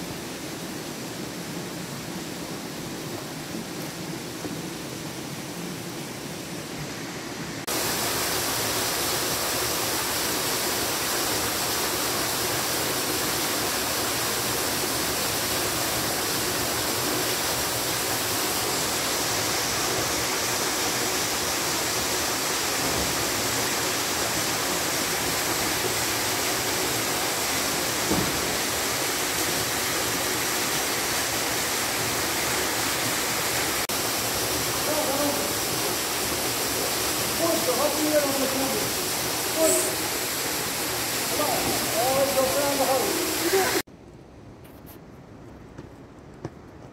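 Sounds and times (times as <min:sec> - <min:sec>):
waterfall and stream over rock: 0:00.0 - 0:43.9.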